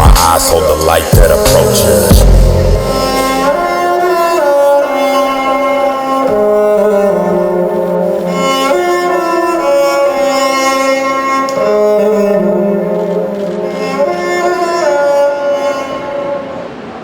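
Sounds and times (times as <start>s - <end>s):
slow bowed string melody: 0.0s - 17.0s.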